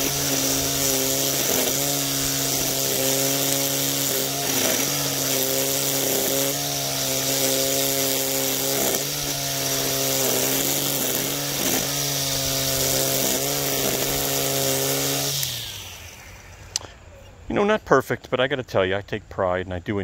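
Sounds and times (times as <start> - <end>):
string trimmer cutting grass: 0.0 - 17.3.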